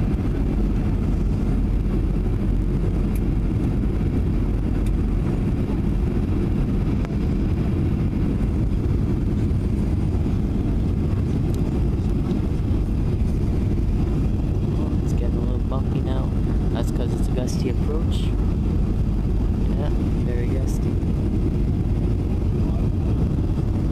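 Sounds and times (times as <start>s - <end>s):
airflow: 0.0s - 23.9s
jet engines roaring: 0.0s - 23.9s.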